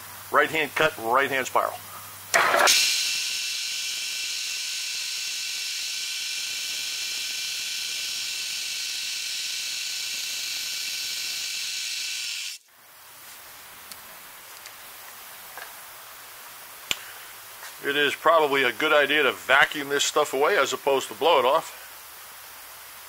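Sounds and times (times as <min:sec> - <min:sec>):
milling cut hissing whine: 0:00.0 - 0:23.0.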